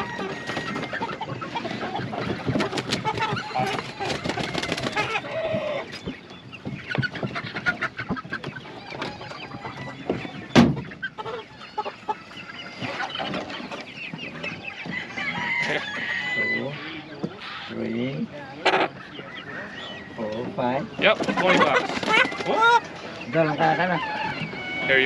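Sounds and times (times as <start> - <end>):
chickens clucking and crowing: 0.0 - 25.0.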